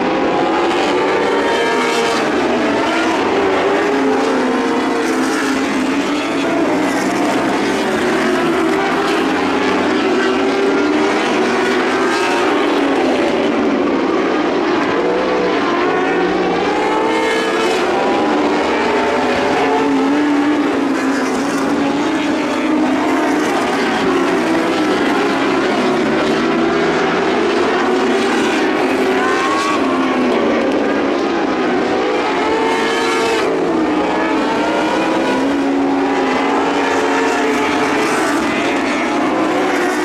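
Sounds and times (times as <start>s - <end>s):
racing car engines revving: 0.0s - 40.0s.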